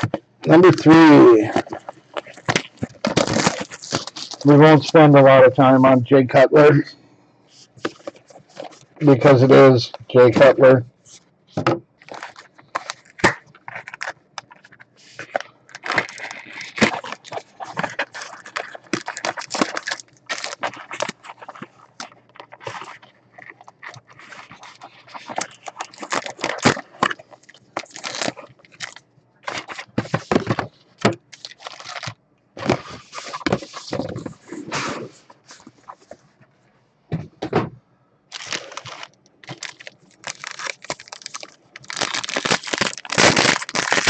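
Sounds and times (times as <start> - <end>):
foil card packs crinkling: 0.0 - 6.0, 7.6 - 34.6, 38.3 - 44.0.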